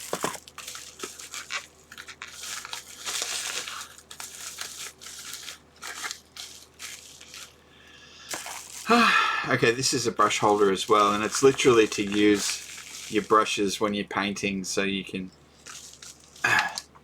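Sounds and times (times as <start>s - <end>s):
plastic packaging crinkling: 0.0s - 14.1s, 15.5s - 16.9s.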